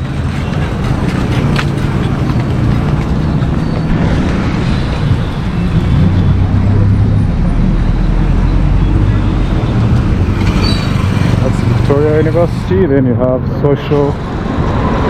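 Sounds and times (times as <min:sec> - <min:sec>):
heavy engine drone: 0:00.0 - 0:15.0
road traffic rumble: 0:00.0 - 0:15.0.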